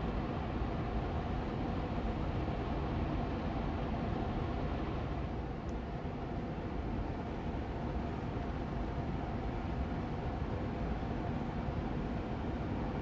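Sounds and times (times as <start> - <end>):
air purifier fan humming: 0.0 - 13.0.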